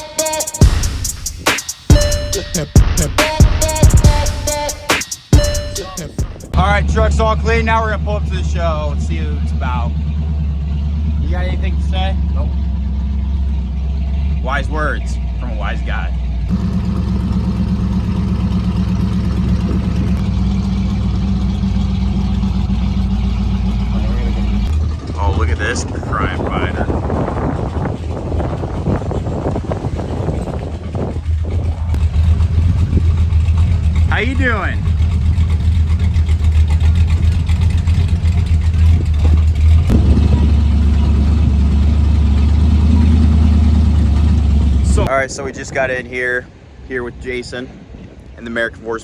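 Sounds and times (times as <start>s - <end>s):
vehicle engine running: 0.0s - 45.6s.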